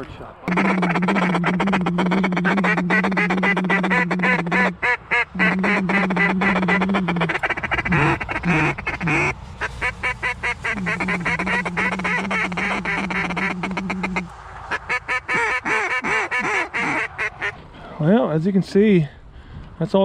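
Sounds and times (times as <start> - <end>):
ducks quacking: 0.0 - 17.6
steady low hum: 0.0 - 19.6.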